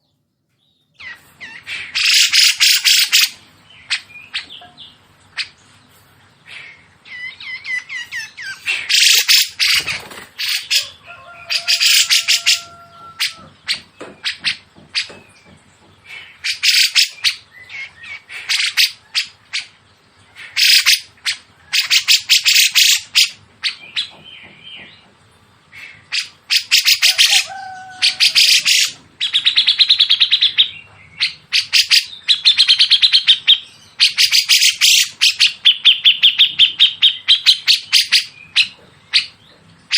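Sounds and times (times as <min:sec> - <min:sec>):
fast harsh songbird calls: 0:01.0 - 0:04.6, 0:06.5 - 0:15.5, 0:16.1 - 0:19.7, 0:20.4 - 0:24.2, 0:25.7 - 0:39.4.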